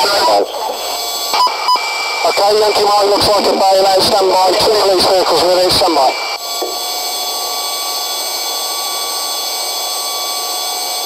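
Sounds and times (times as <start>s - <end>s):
helicopter cabin hiss and whine: 0.0s - 11.0s.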